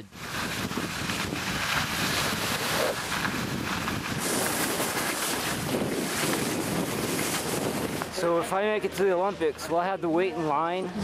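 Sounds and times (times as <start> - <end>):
wind rushing over microphone: 0.0 - 8.9
skis scraping over snow: 0.0 - 9.7.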